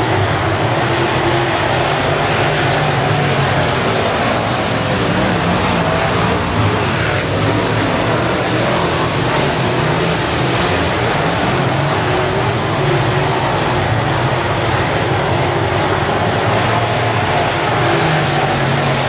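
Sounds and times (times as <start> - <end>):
race car engines at speed: 0.0 - 19.0.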